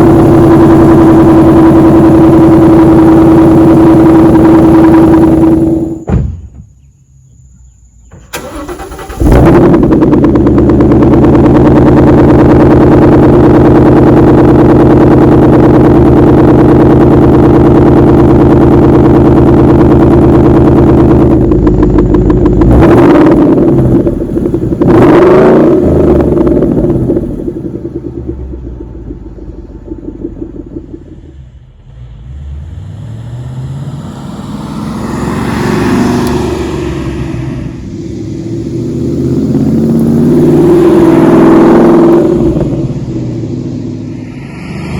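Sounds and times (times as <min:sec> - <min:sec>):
car engine idling and revving: 0:00.0 - 0:06.1, 0:06.7 - 0:44.9
car engine starting: 0:00.0 - 0:06.1, 0:06.8 - 0:44.9.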